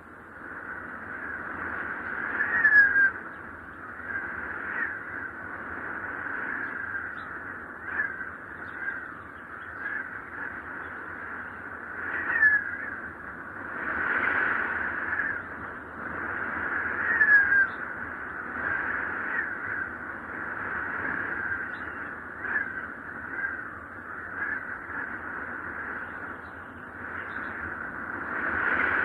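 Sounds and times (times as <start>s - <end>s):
wind whistling in gusts: 0.0s - 29.0s.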